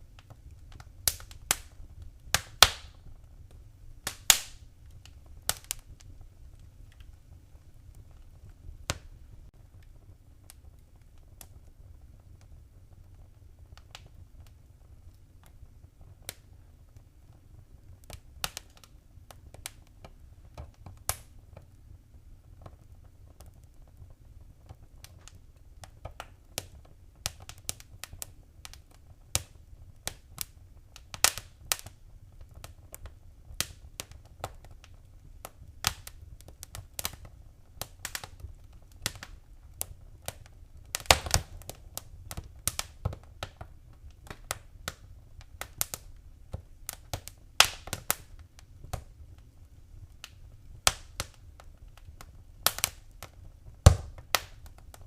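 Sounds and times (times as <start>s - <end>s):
fire crackling and popping: 0.0s - 55.0s
low fire rumble: 0.0s - 55.0s.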